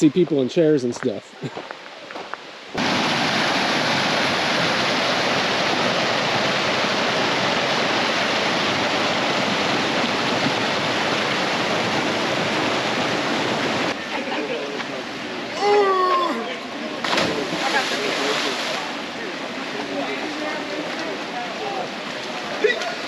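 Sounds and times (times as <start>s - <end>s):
waterfall rushing: 2.7s - 23.0s.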